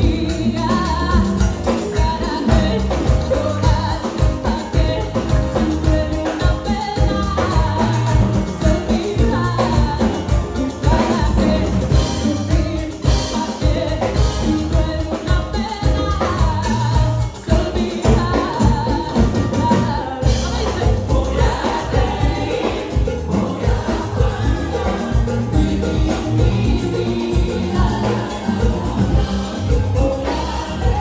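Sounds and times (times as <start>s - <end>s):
keyboard and drum kit music: 0.0s - 31.0s
woman singing into microphone: 0.0s - 31.0s.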